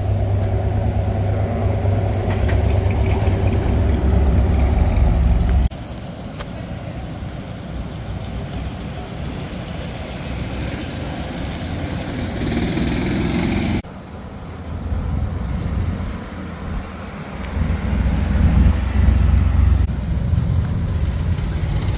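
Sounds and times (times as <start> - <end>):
car engines rumbling: 0.0 - 21.9.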